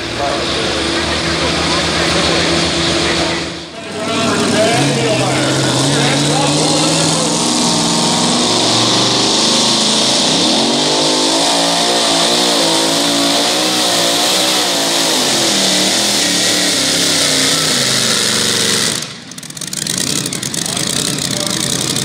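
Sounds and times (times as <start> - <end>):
truck engine revving under load: 0.0 - 22.0.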